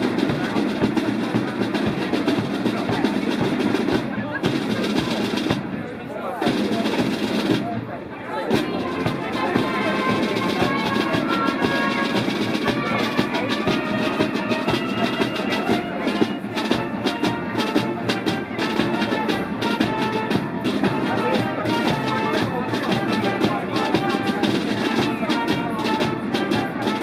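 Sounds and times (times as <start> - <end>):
steady drum beat: 0.0 - 7.9, 8.5 - 27.0
marching band wind instruments: 0.0 - 27.0.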